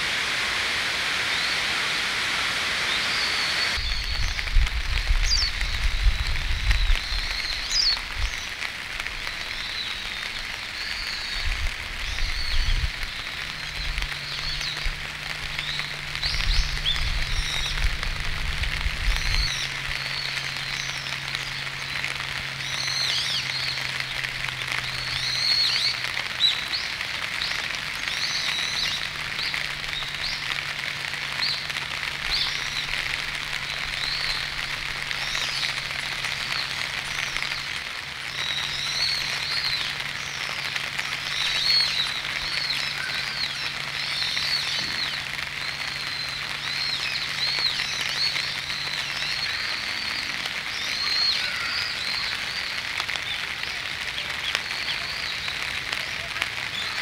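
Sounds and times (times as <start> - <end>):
small birds chirping: 2.8 - 57.0.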